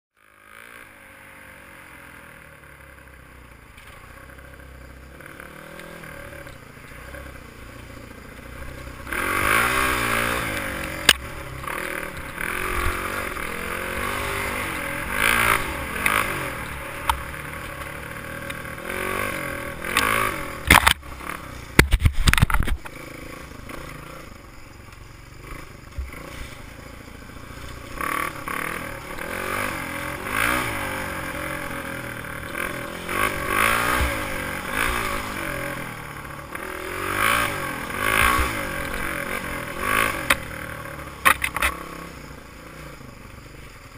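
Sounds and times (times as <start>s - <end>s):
dirt bike engine revving: 0.2s - 43.9s.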